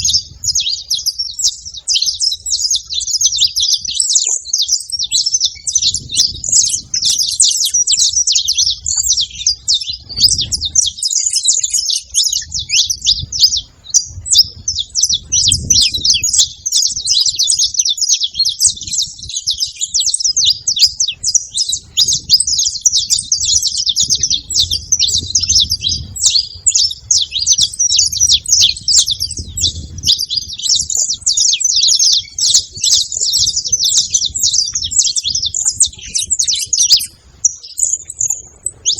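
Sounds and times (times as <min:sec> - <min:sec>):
finches chirping and singing: 0:00.0 - 0:38.9.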